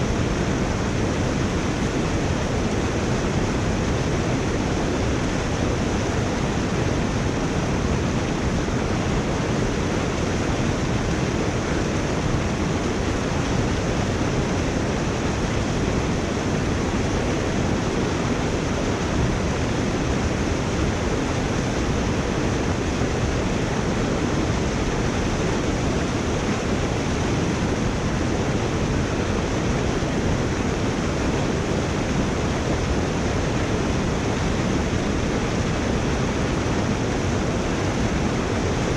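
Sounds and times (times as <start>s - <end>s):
water rushing through culvert: 0.0s - 38.9s.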